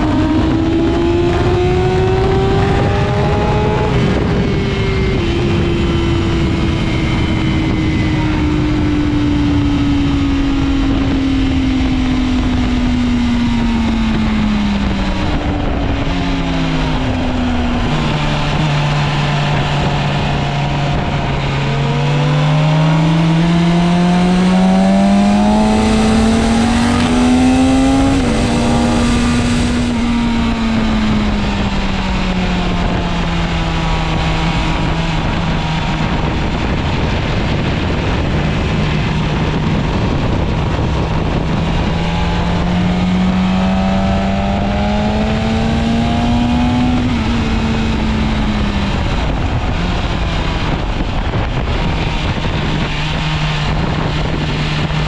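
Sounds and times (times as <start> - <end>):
motorcycle engine revving: 0.0 - 55.0
wind rushing: 0.0 - 55.0.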